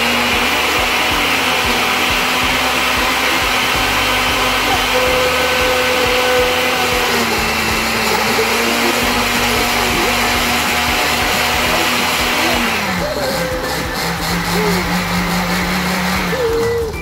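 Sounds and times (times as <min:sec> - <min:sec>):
blender motor whirring: 0:00.0 - 0:17.0.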